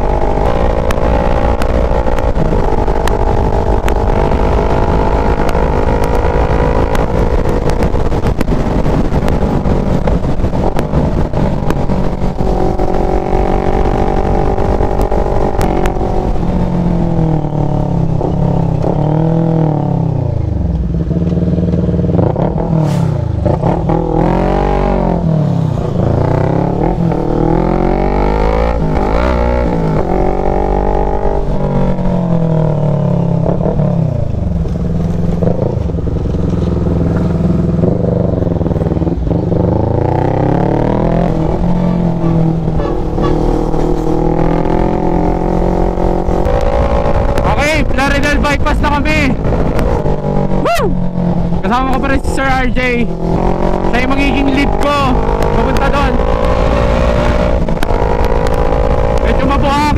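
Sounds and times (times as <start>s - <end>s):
motorcycle engine revving: 0.0s - 59.9s
wind buffeting microphone: 0.0s - 59.9s.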